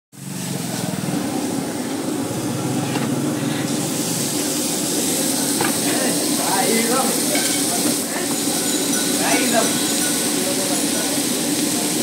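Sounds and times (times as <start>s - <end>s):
vegetables sizzling on a griddle: 0.2s - 12.0s.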